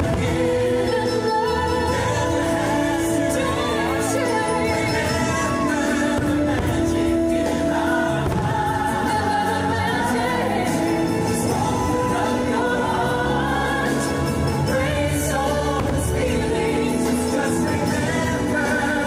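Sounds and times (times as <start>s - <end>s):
music with choir singing: 0.0s - 19.0s.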